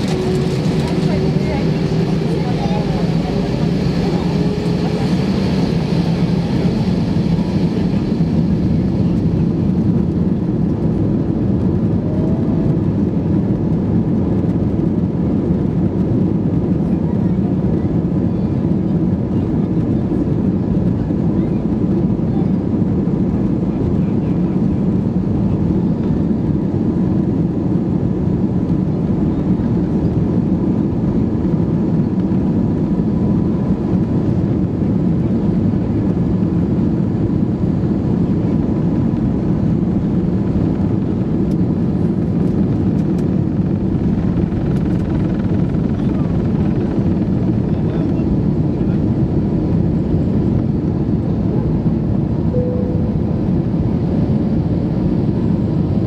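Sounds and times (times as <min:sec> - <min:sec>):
airplane engines rumbling: 0:00.0 - 0:56.0.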